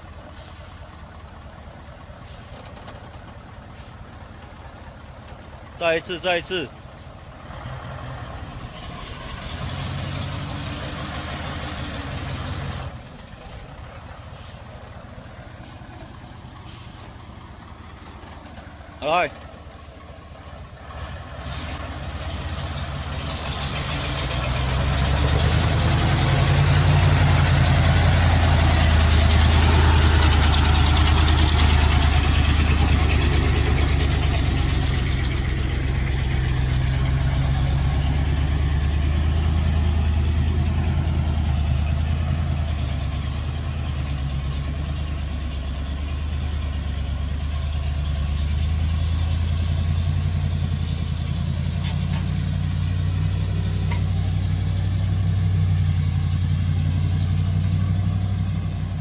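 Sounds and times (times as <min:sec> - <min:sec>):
heavy truck engine drone: 0:00.0 - 0:59.0.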